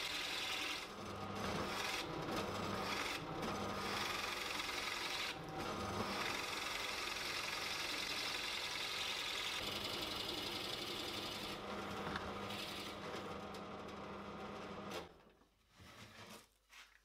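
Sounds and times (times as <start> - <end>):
drill press boring wood: 0.0 - 15.1.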